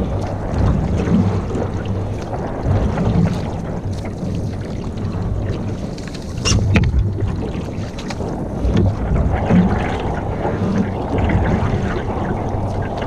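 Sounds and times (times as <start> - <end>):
rumble of water: 0.0 - 13.0
wind on microphone: 0.0 - 13.0.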